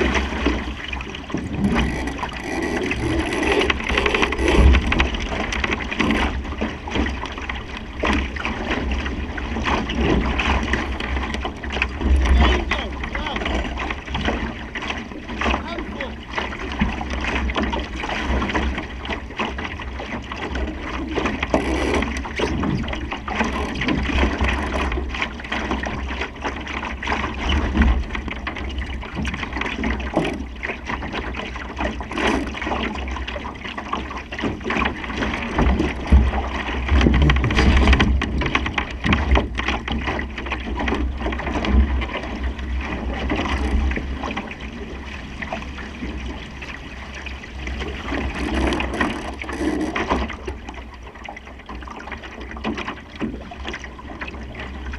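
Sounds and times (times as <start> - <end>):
water splashing along a hull: 0.0 - 54.9.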